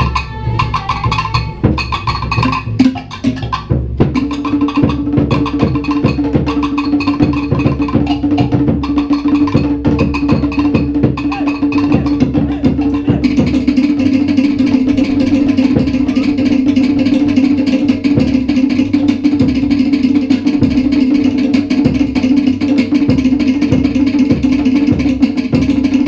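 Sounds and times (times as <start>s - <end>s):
deep drum beat: 0.0s - 26.0s
fast strumming on stringed instruments: 4.3s - 26.0s.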